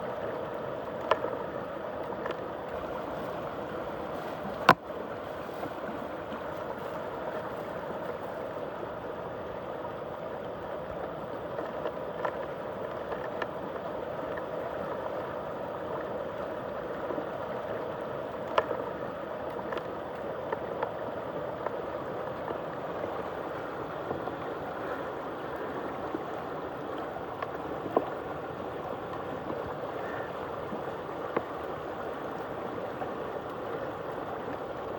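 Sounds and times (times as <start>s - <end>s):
water swirling and gurgling: 0.0s - 34.9s.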